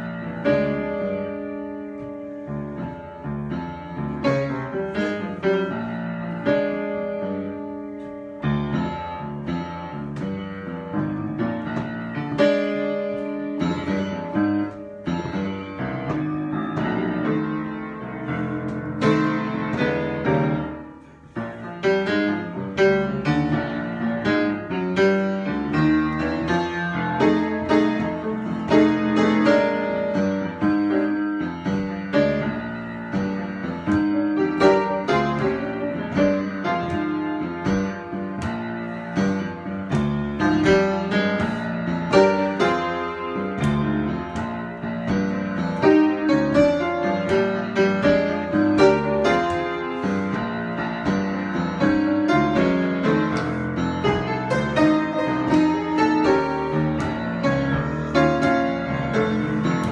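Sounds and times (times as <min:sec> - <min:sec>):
solo piano improvisation: 0:00.0 - 0:59.9.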